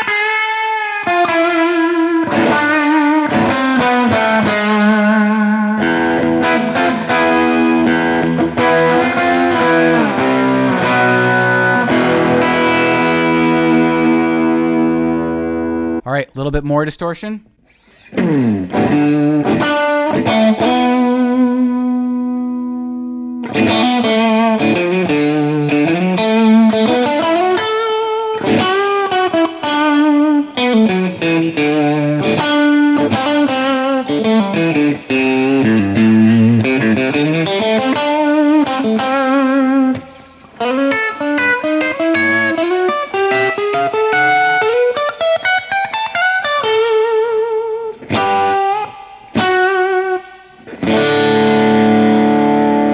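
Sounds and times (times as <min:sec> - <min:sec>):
overdriven electric guitar: 0:00.0 - 0:16.0, 0:17.7 - 0:52.9.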